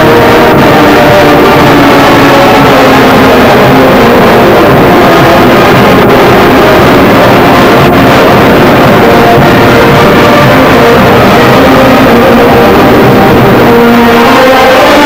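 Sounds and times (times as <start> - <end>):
wind band playing: 0.0 - 15.0.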